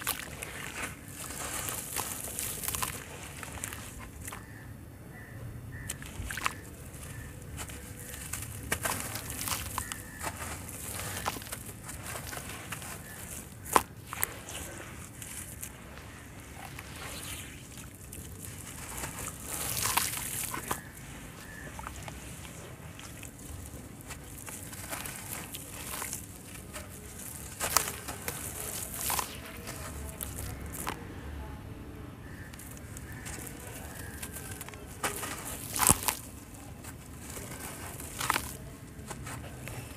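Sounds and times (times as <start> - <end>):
crumbs splashing into water: 0.0 - 4.6, 5.8 - 31.2, 32.2 - 39.9
hands crumbling wet cement: 0.0 - 4.6, 5.2 - 31.2, 32.2 - 39.9.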